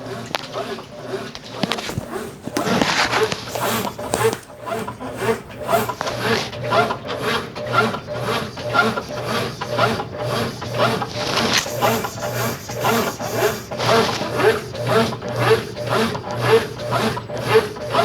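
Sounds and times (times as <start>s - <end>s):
pulsing washing machine motor hum: 0.0s - 18.0s.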